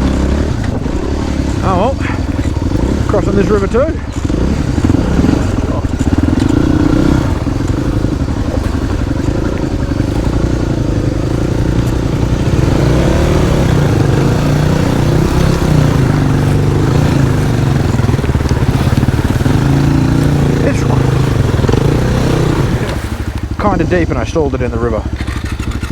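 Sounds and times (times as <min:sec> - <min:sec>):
motorcycle engine under load: 0:00.0 - 0:25.9.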